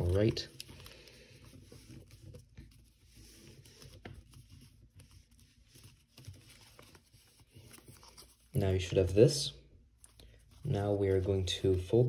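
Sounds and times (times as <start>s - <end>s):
paper crinkling and creasing: 0.0s - 12.0s.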